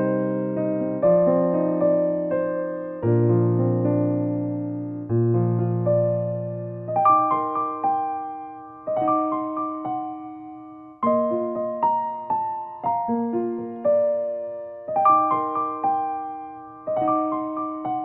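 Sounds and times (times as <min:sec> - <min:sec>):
slow gentle piano melody: 0:00.0 - 0:18.0.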